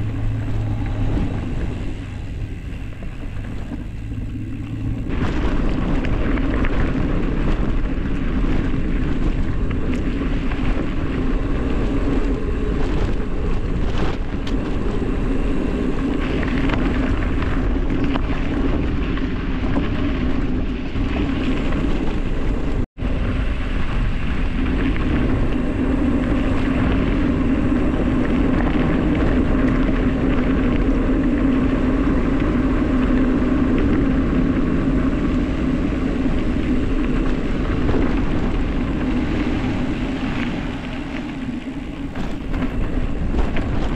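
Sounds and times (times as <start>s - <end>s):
steady low drone: 0.0s - 43.9s
tyres rolling on gravel: 0.0s - 43.9s
wind rushing over microphone: 0.0s - 43.9s.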